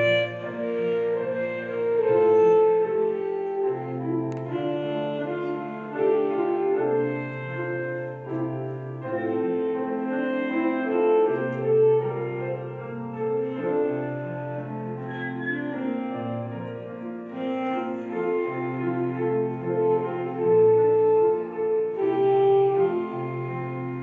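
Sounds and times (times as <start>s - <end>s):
piano: 0.0s - 24.0s
solo melody instrument long notes: 0.0s - 24.0s.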